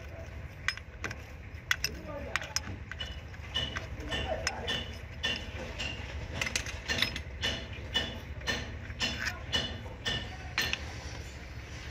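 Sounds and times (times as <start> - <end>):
ratchet wrench clicking: 0.7 - 10.8.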